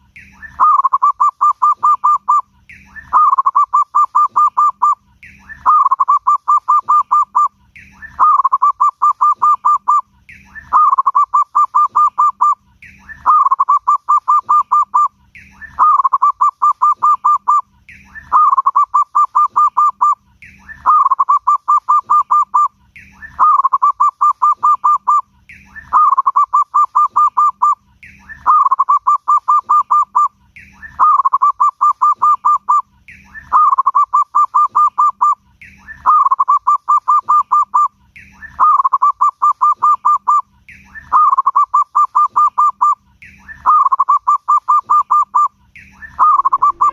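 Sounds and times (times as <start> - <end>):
dove cooing: 0.4 - 25.2, 25.8 - 32.8, 33.4 - 40.4, 41.0 - 46.9.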